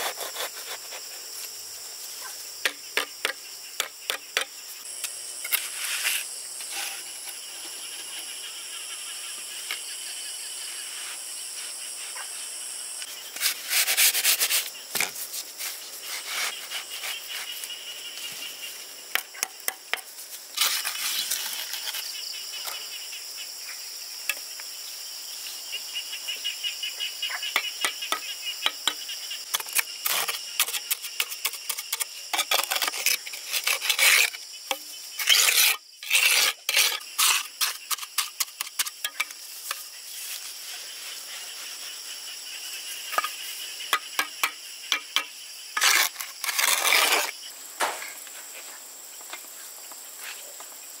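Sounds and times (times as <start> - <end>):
high-pitched insect chorus: 0.0 - 51.0.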